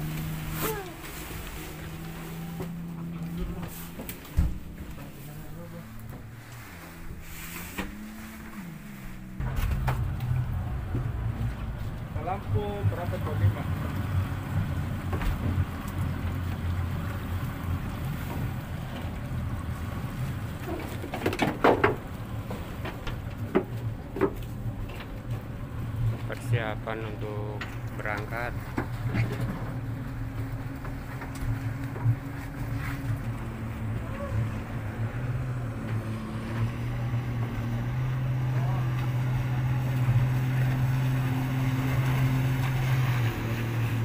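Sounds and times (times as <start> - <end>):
outboard motors idling: 0.0 - 44.0.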